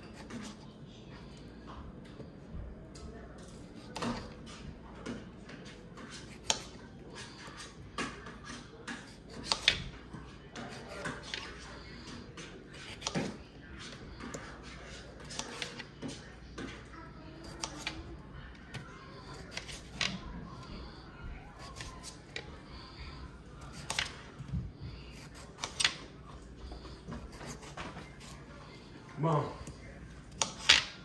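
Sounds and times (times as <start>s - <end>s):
knife cutting potatoes: 0.0s - 0.8s, 3.4s - 31.0s.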